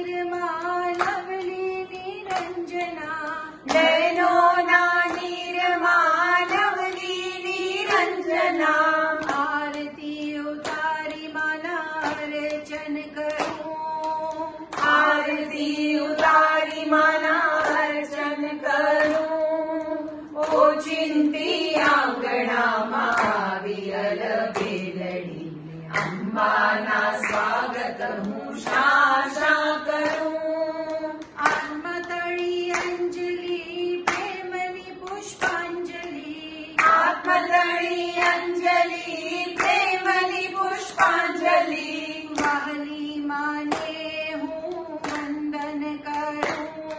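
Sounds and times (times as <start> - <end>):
hand claps: 0.0 - 46.9
women singing: 0.0 - 46.9.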